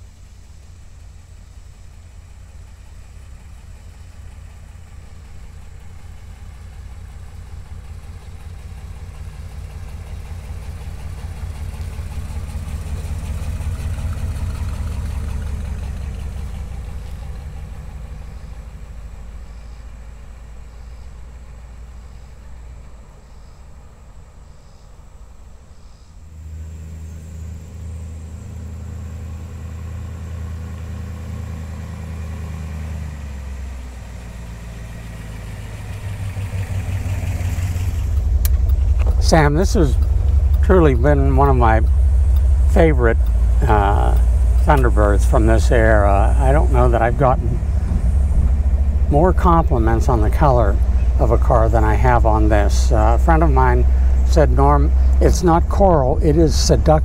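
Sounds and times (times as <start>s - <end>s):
car engine driving past: 0.0s - 57.0s.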